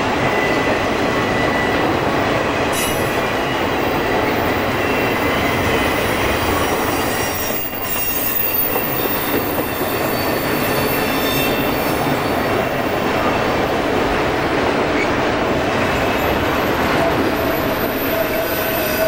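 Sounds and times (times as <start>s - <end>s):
diesel locomotive engines: 0.0s - 19.0s.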